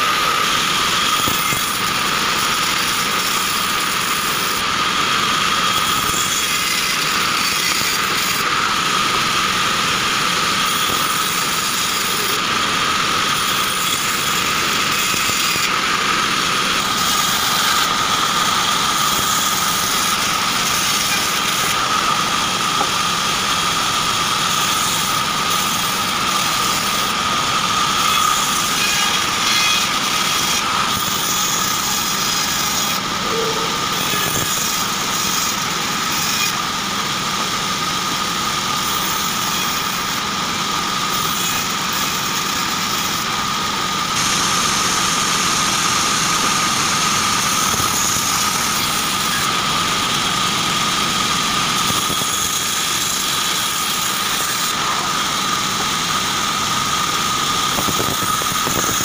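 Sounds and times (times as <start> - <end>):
band sawmill cutting logs: 0.0 - 59.0.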